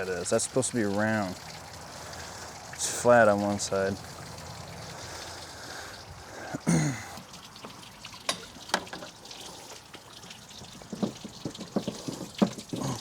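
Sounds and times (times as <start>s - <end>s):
water trickling from hose: 0.0s - 13.0s.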